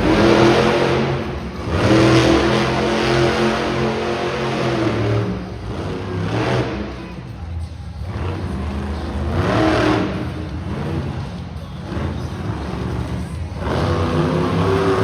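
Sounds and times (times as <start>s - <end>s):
truck engine revving hard: 0.0s - 7.4s, 8.0s - 15.0s.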